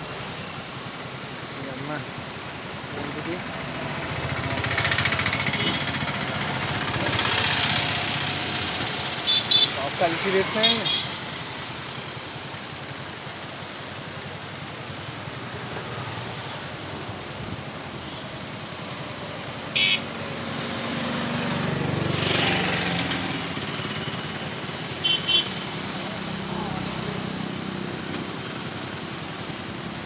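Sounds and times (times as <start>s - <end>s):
river current rushing: 0.0s - 30.0s.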